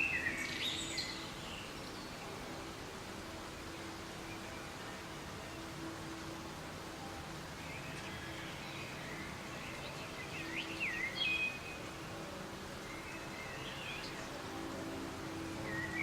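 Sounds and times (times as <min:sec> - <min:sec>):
soft rain: 0:00.0 - 0:16.0.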